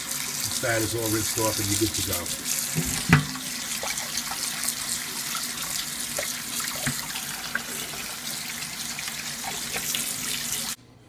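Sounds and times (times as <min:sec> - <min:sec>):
tap water running into sink: 0:00.0 - 0:10.8.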